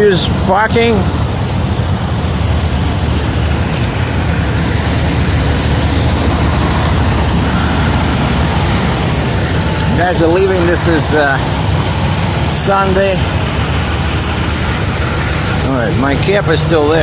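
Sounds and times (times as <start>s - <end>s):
diesel truck engines rumbling: 0.0s - 17.0s
traffic hiss: 0.0s - 17.0s.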